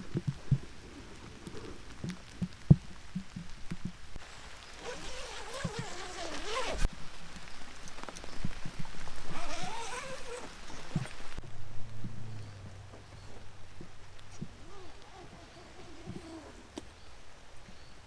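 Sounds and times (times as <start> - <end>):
rain pattering: 0.0 - 17.8.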